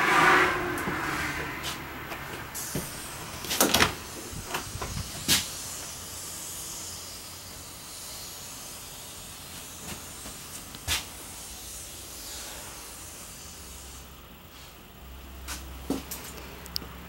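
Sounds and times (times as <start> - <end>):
steady hiss: 1.8 - 17.0.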